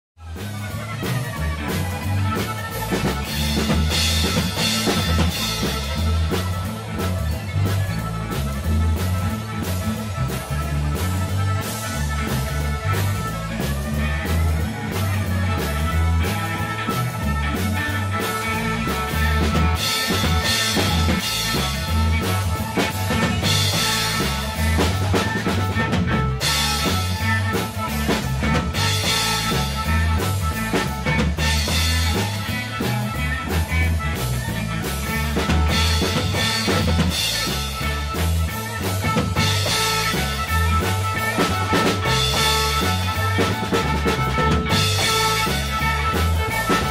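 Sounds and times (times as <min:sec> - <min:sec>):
amplified fiddle: 0:00.2 - 0:46.9
drum kit beat: 0:00.2 - 0:46.9
electric guitar: 0:00.2 - 0:46.9.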